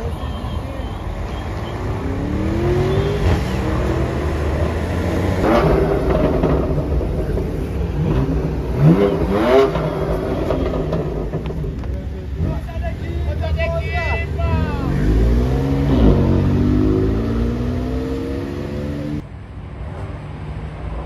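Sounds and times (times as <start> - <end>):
traffic rumble: 0.0 - 21.0
car engine accelerating hard: 1.5 - 13.6, 14.4 - 19.2.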